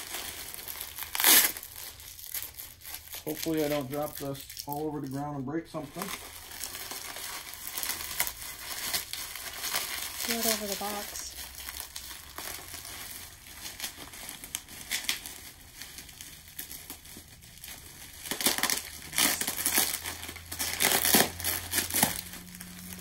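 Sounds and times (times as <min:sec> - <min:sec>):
packaging wrap crinkling: 0:00.0 - 0:23.0.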